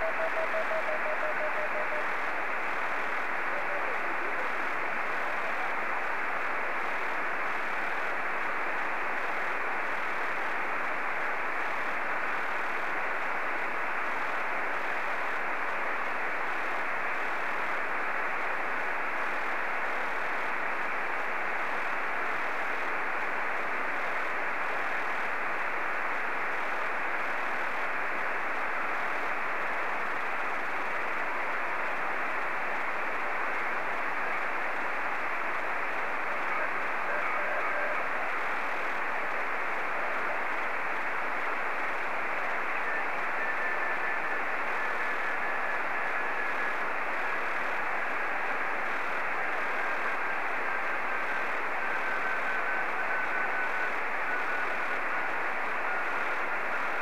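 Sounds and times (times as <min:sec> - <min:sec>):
radio receiver hiss: 0:00.0 - 0:57.0.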